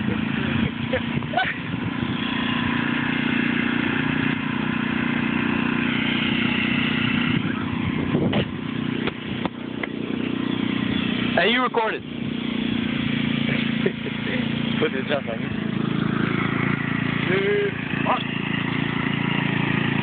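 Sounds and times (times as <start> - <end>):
small tractor engine running: 0.0 - 20.0.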